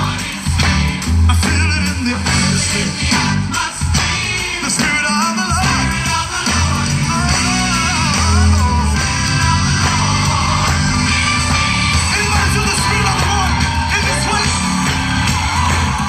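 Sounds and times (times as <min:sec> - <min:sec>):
band accompaniment with bass: 0:00.0 - 0:16.0.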